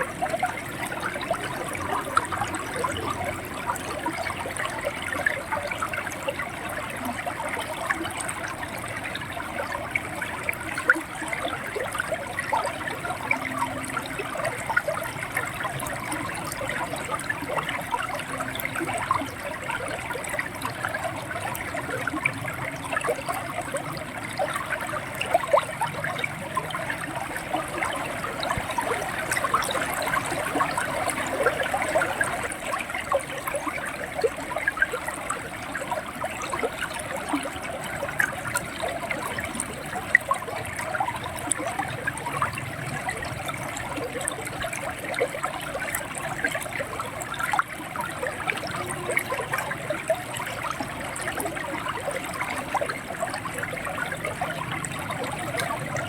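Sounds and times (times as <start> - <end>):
river water gurgling over stones: 0.0 - 56.0.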